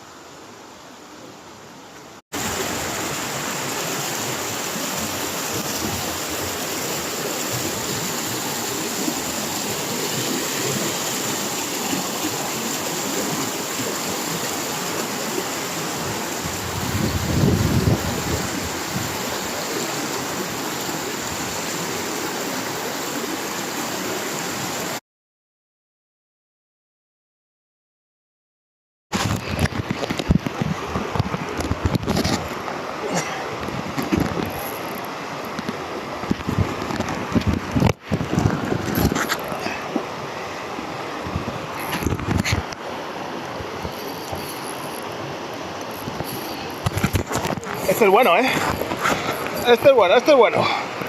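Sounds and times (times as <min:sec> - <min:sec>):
river current rushing: 0:00.0 - 0:25.0, 0:29.2 - 0:51.0.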